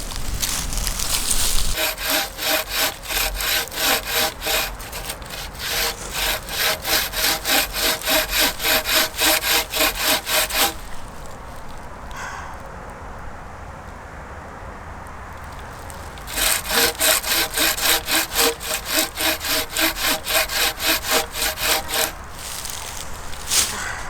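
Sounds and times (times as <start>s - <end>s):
hand saw cutting wood: 0.0s - 11.4s, 15.8s - 24.0s
quiet outdoor background: 0.0s - 24.0s.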